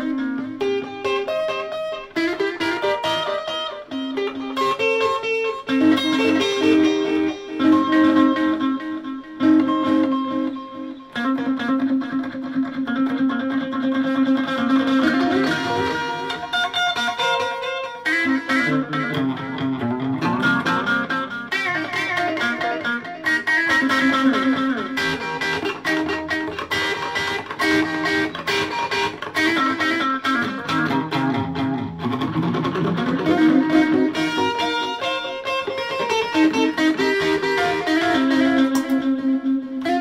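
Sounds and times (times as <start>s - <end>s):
electric guitar melody: 0.0s - 40.0s.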